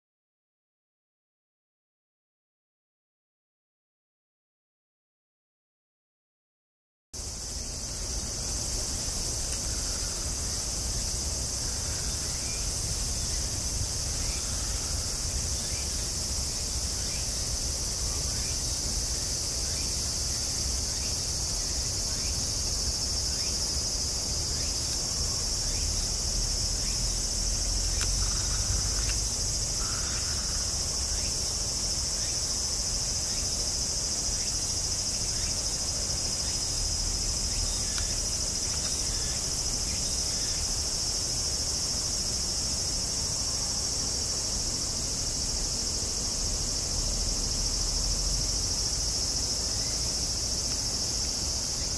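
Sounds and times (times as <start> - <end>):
high-pitched insect chorus: 7.2 - 51.9.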